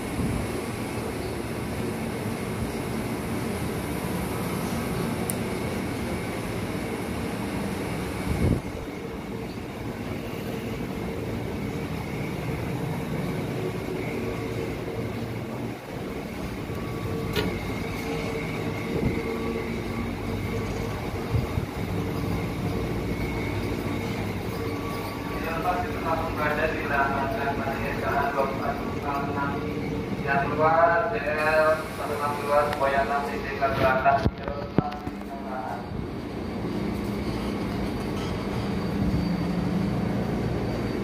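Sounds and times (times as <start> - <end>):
train car equipment hum: 0.0 - 41.0.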